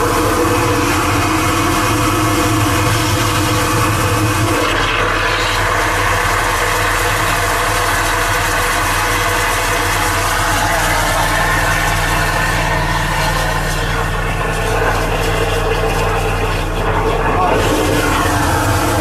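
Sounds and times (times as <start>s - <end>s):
engine low drone: 0.0s - 19.0s
water jet hissing: 0.0s - 19.0s.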